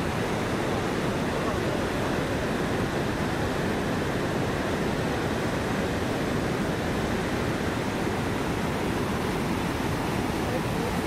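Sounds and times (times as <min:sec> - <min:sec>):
river rapids roaring: 0:00.0 - 0:11.0.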